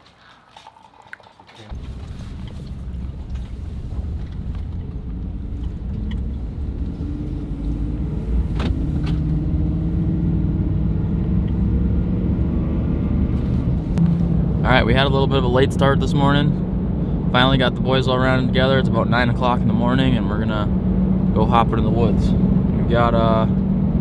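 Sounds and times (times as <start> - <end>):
truck engine and road rumble: 1.6 - 24.0.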